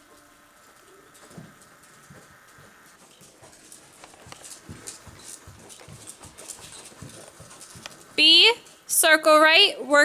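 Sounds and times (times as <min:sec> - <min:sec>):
hooves scuffing: 0:00.0 - 0:09.4
horse hoofbeats trotting: 0:00.0 - 0:09.4.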